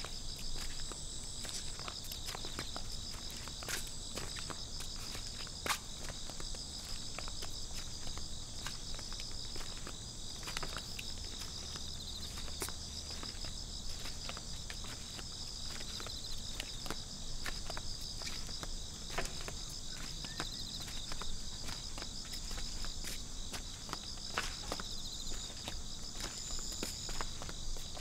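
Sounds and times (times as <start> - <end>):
footsteps on paving: 0.0 - 28.0
insects chirring: 0.0 - 28.0.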